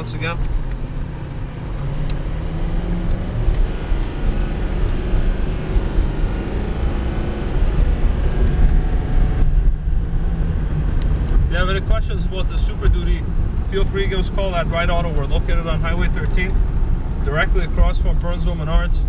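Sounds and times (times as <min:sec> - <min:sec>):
diesel truck engine accelerating: 0:00.0 - 0:19.0
road and wind rumble: 0:00.0 - 0:19.0.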